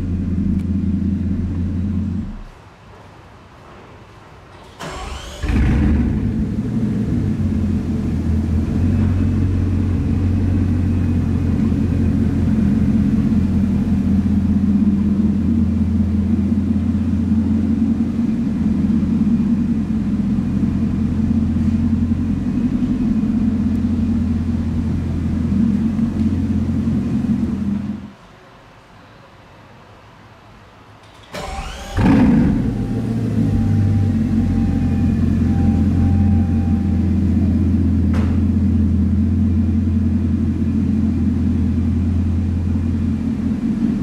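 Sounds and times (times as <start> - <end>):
starter whine: 0.0 - 2.6, 4.8 - 28.1, 31.4 - 44.0
car engine idling: 0.0 - 2.7, 4.8 - 28.2, 31.4 - 44.0.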